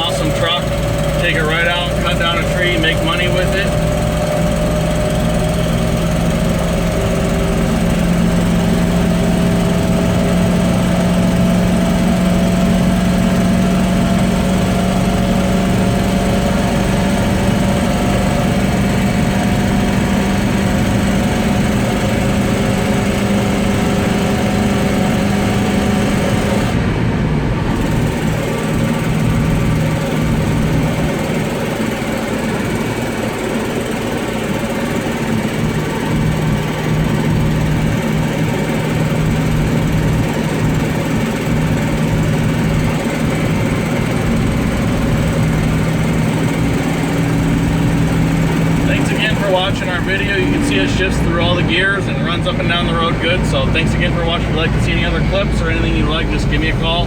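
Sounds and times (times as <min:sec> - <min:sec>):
truck engine accelerating: 0:00.0 - 0:57.0.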